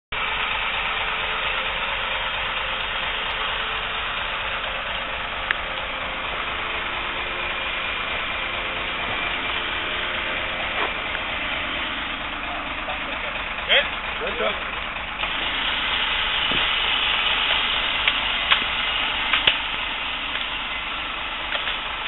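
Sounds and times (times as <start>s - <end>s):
truck engine idling: 0.1s - 22.0s.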